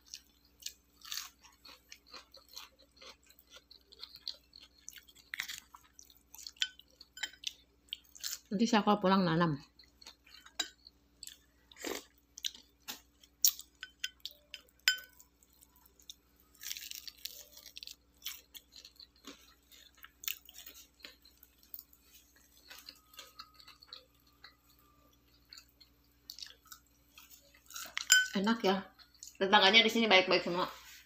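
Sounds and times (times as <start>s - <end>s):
person chewing: 0.0s - 8.5s, 9.6s - 28.2s.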